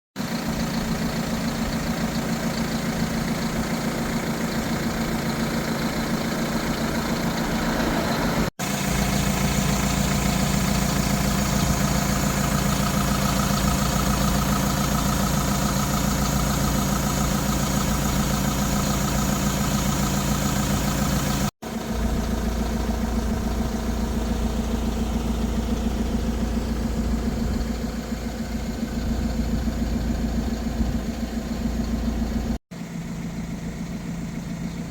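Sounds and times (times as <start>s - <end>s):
diesel truck engine idling: 0.2s - 34.9s.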